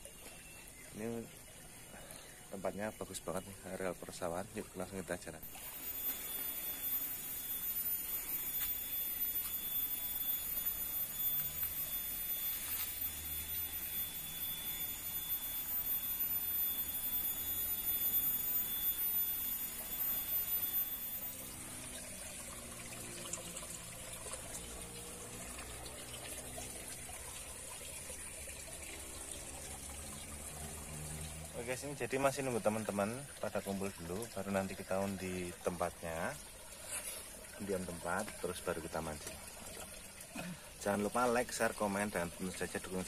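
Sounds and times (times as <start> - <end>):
thin high-pitched tones: 0.0 - 43.0
water running and trickling: 0.0 - 43.0.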